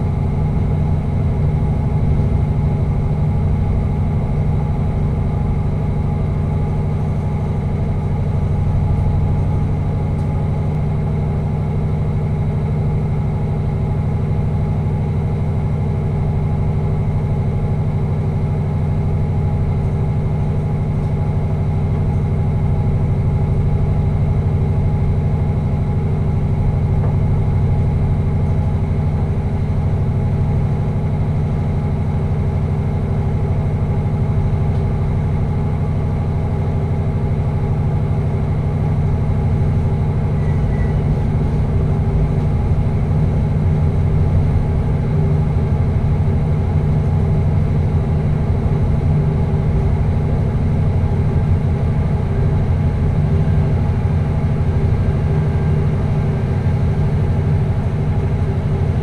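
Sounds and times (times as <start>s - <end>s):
train cab drone: 0.0s - 59.0s.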